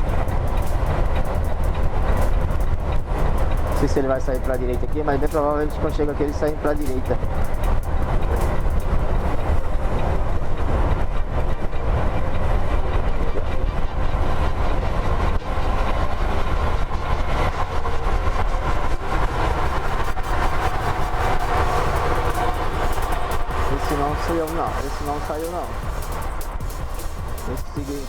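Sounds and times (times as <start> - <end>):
coach engine rumble: 0.0 - 28.0.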